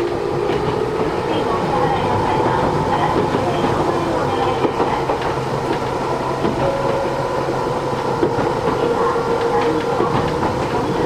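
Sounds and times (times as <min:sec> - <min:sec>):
constant tonal hum: 0:00.0 - 0:11.0
train rolling noise: 0:00.0 - 0:11.0.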